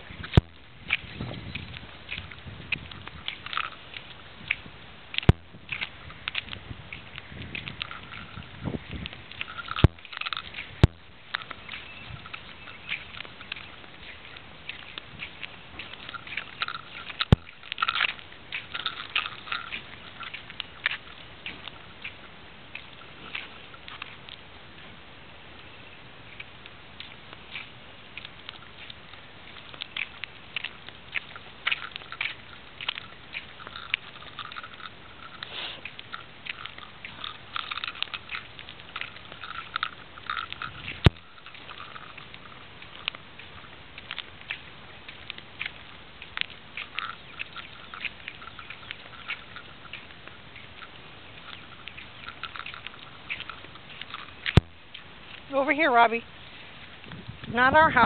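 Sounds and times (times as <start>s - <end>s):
light clicking steps on asphalt: 0.0s - 58.0s.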